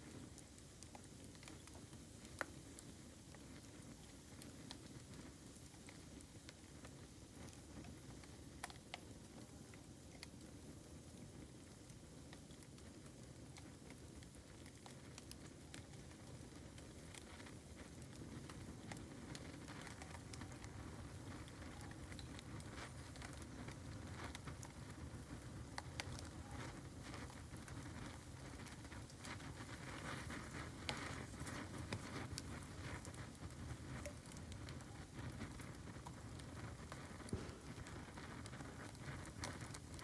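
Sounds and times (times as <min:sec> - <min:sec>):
bamboo bonfire crackling and popping: 0:00.0 - 0:40.0.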